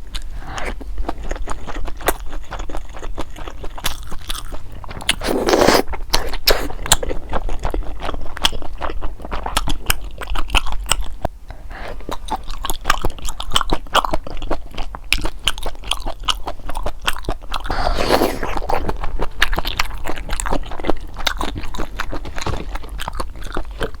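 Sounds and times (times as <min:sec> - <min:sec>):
wet chewing: 0:00.0 - 0:24.0.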